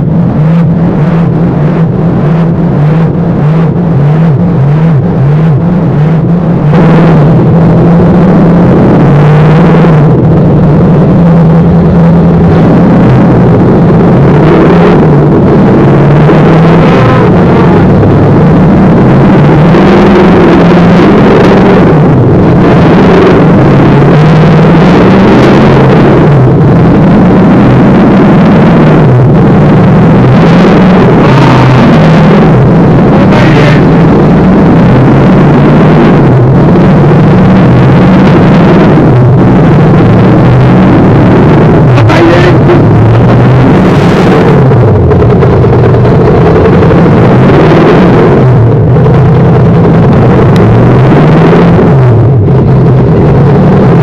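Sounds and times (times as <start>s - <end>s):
engine revving loudly: 0.0s - 54.0s.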